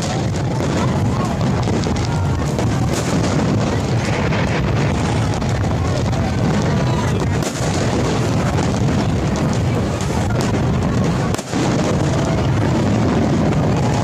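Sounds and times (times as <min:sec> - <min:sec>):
firework bangs: 0:00.0 - 0:14.0
fireworks crackling and popping: 0:00.0 - 0:14.0.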